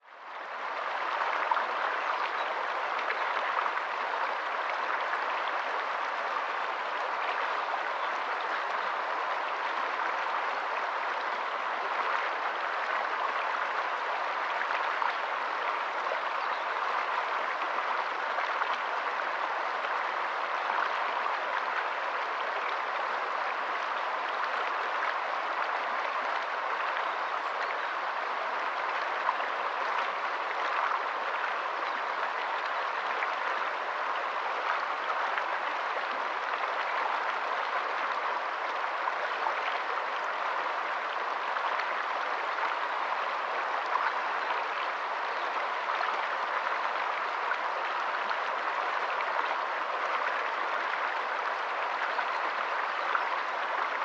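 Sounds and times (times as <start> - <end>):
water patter and rush: 0.0 - 54.0.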